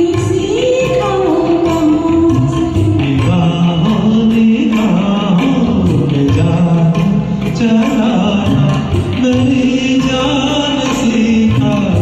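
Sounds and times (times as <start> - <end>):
karaoke instrumental backing track: 0.0 - 12.0.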